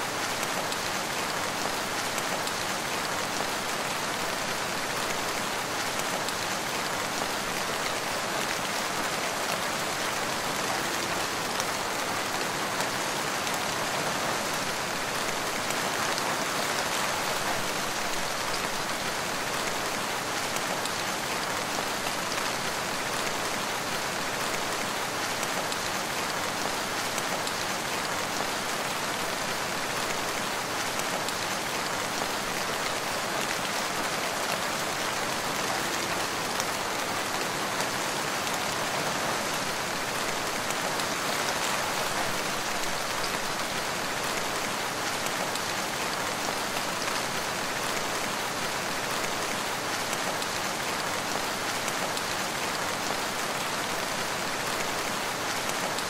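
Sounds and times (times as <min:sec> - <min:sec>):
steady rain in a forest: 0:00.0 - 0:56.0.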